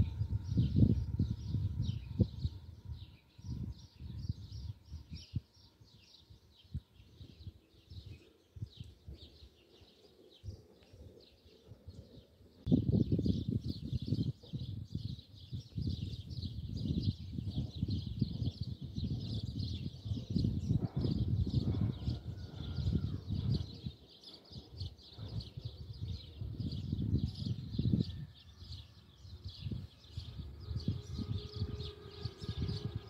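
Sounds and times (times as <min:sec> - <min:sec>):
low gusty rumble: 0:00.0 - 0:09.5, 0:11.2 - 0:33.0
small birds chirping: 0:00.0 - 0:33.0.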